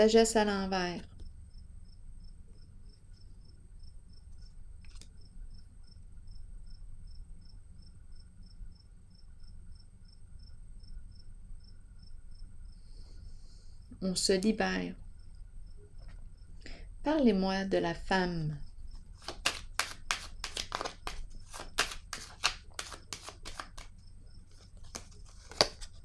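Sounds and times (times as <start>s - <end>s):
cricket chirping: 1.0s - 21.5s, 23.8s - 25.0s.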